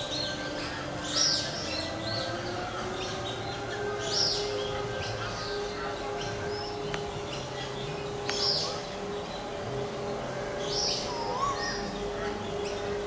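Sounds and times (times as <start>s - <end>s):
birds chirping downward: 0.0s - 13.0s
steady low hum: 0.0s - 13.0s.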